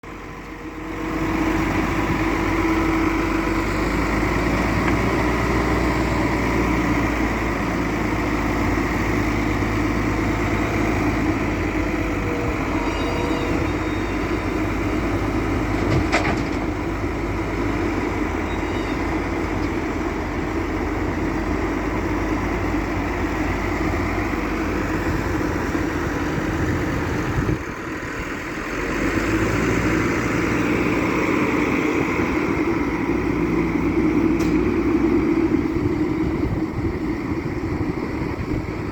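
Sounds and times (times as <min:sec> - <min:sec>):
wheel loader diesel engine running: 0:00.0 - 0:38.9.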